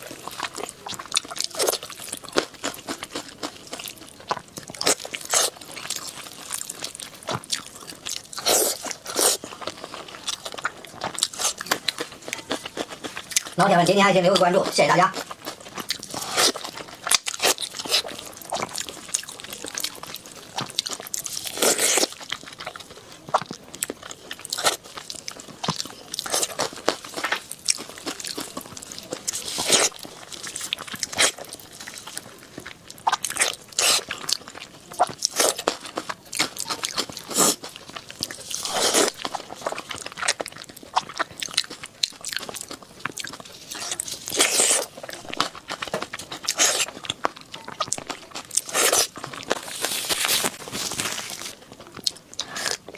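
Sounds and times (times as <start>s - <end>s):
wet chewing and lip-smacking: 0.0s - 52.9s.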